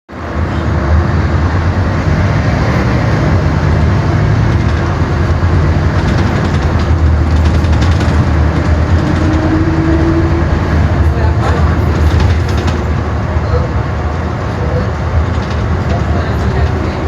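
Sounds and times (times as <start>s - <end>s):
bus diesel engine running: 0.1s - 17.0s.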